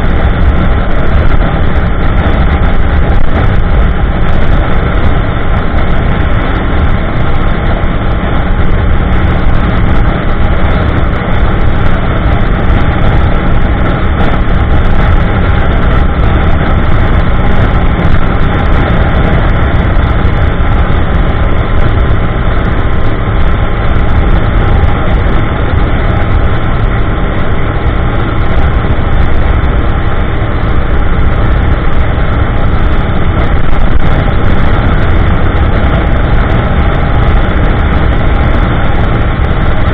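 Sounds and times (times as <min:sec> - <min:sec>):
motorcycle engine cruising: 0:00.0 - 0:39.9
road noise: 0:00.0 - 0:39.9
wind noise: 0:00.0 - 0:39.9.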